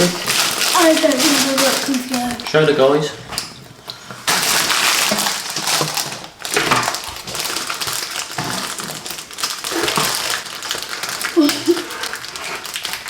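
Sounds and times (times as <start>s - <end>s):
plastic snack packet crinkling: 0.0s - 3.1s, 4.1s - 13.0s.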